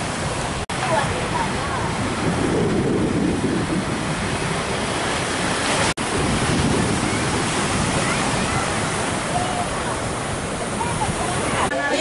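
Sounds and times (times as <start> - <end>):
wind buffeting microphone: 0.0 - 11.7
sea surf breaking on shore: 0.0 - 12.0.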